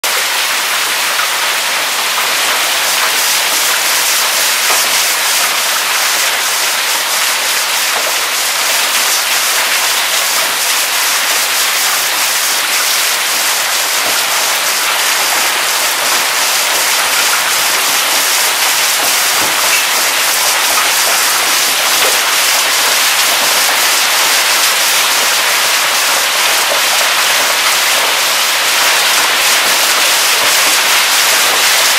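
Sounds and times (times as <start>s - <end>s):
hailstones pelting down: 0.1s - 31.9s.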